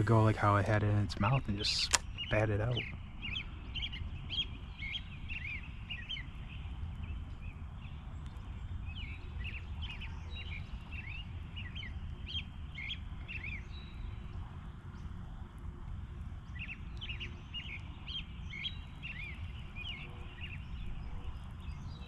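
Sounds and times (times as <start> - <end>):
songbirds chirping: 0.0 - 22.0
steady low rumble: 0.0 - 22.0.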